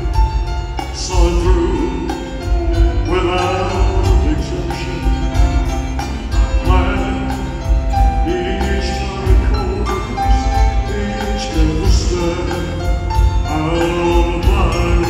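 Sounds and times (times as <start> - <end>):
bass: 0.0 - 15.0
drum beat: 0.0 - 15.0
keyboards: 0.0 - 15.0.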